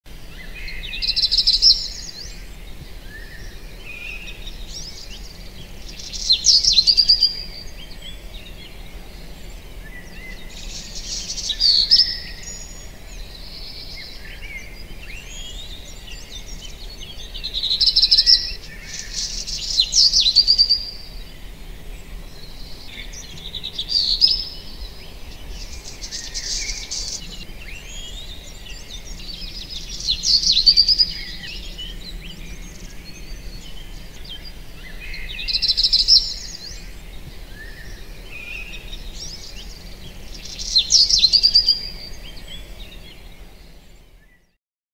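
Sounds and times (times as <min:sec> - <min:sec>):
bird song phrase: 0:00.1 - 0:44.6
faint bird chirps and calls: 0:00.1 - 0:44.6
low steady background hiss: 0:00.1 - 0:44.6.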